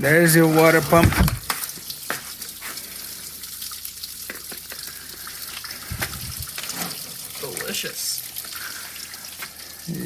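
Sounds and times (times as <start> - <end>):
coolant pouring out: 0.0 - 10.0.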